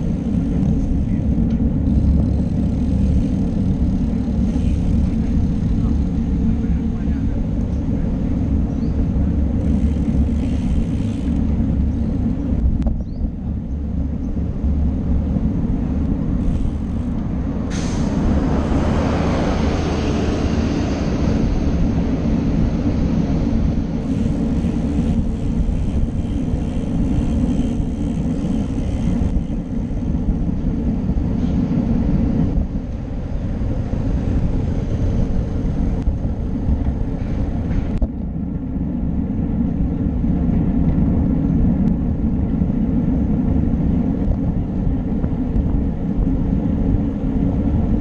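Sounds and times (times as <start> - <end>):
bike tyre and road noise: 0.0 - 48.0
wind on microphone: 0.0 - 48.0.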